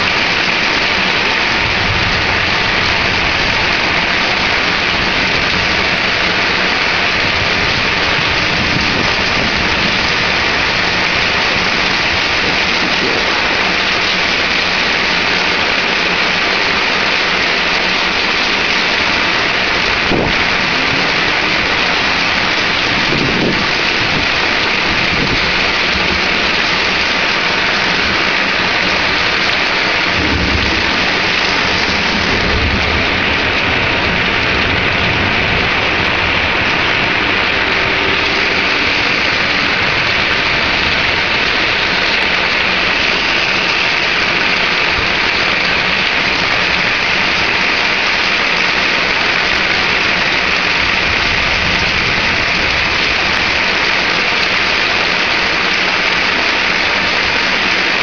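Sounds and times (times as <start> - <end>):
low thunder rumbling: 0.0 - 49.5
heavy rain pouring: 0.0 - 58.0.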